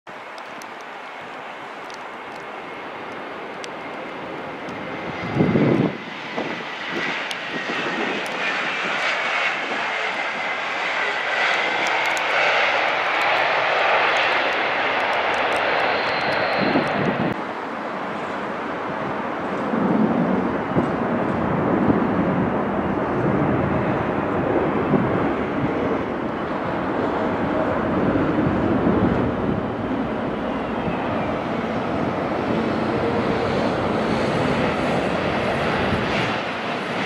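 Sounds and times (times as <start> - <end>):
jet engines running: 0.1 - 37.0.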